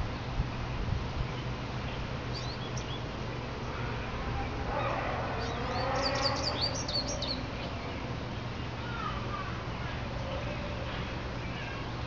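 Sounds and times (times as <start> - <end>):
steady low hum: 0.0 - 12.0
small birds chirping: 1.2 - 12.0.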